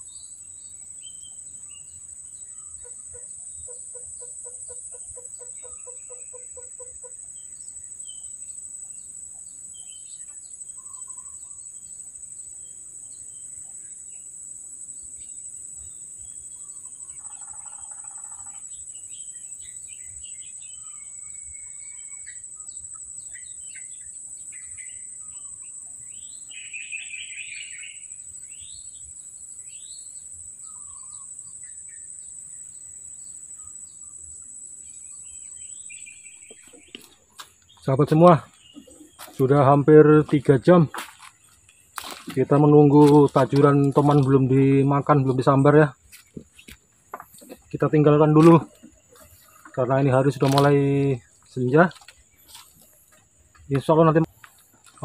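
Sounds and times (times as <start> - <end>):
birds calling: 0.0 - 55.0
high-pitched insect drone: 0.0 - 55.0.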